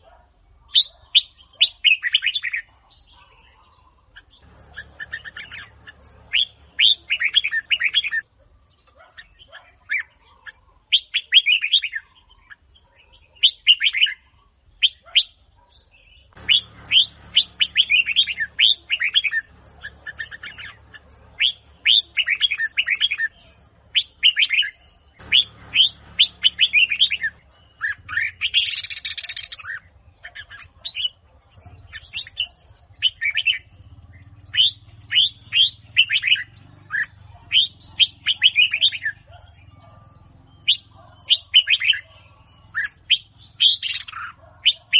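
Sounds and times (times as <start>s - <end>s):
bird singing whistled notes: 0.7s - 44.9s.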